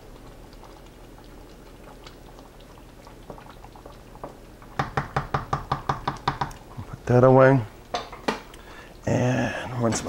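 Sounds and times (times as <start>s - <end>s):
sauce simmering and bubbling: 0.0s - 10.0s.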